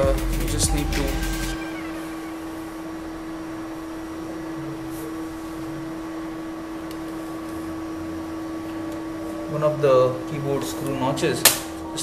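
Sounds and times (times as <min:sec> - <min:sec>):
low-pitched hum: 0:00.0 - 0:11.0.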